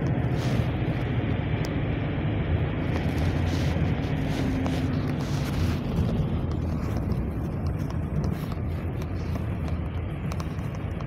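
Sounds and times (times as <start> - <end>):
engine drone: 0.0 - 11.0
road rumble: 0.0 - 11.0.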